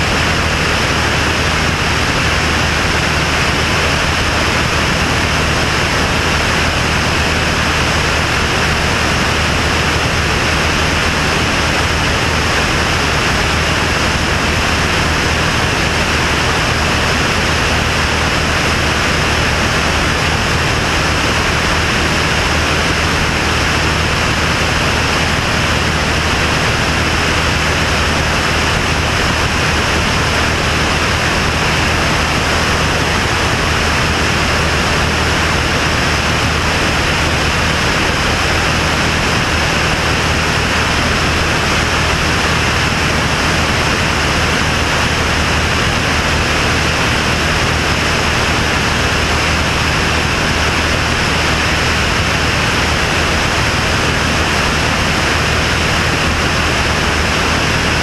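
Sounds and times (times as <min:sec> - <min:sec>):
propeller plane engine drone: 0:00.0 - 0:58.0
rushing wind: 0:00.0 - 0:58.0.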